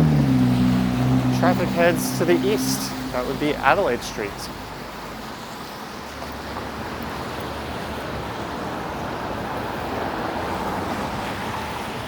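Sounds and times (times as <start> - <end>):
traffic on wet street: 0.0 - 12.0.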